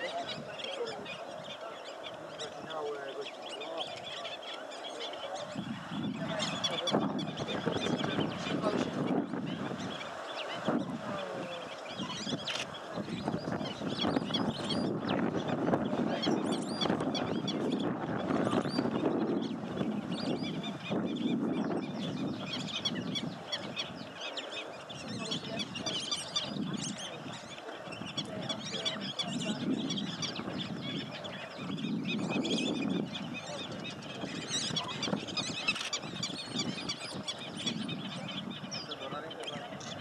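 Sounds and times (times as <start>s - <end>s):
birds chirping and calling: 0.0s - 40.0s.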